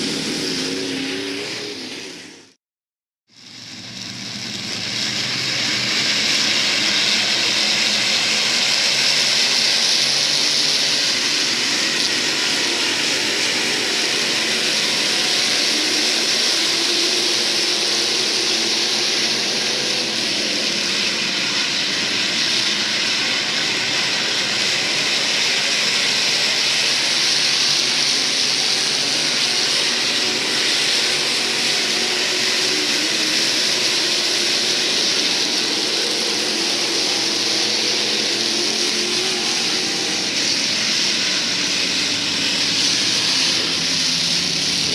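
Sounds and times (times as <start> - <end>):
race car engines roaring: 0.0 - 2.6, 3.5 - 44.9.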